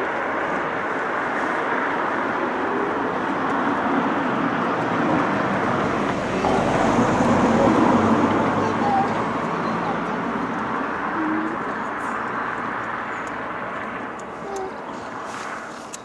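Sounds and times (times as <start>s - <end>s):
low rushing outdoor hum: 0.0s - 16.0s.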